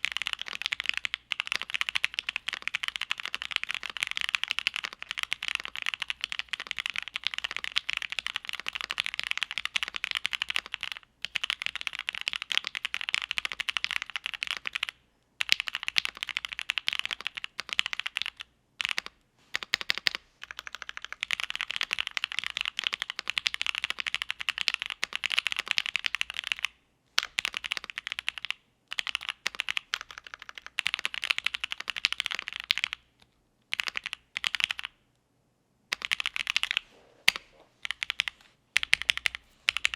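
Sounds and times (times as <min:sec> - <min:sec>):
mechanical keyboard typing: 0:00.0 - 0:33.0, 0:33.7 - 0:34.9, 0:35.9 - 0:39.9.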